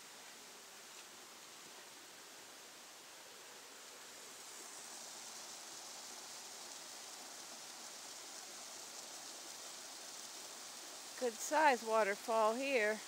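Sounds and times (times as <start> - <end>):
waterfall pouring into pool: 0.0 - 13.0.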